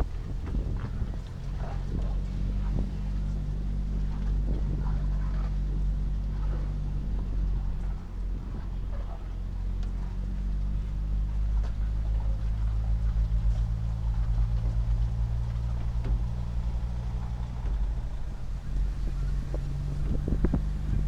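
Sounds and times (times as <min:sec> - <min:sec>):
diesel truck engine drone: 0:00.0 - 0:21.0
road noise: 0:00.0 - 0:21.0.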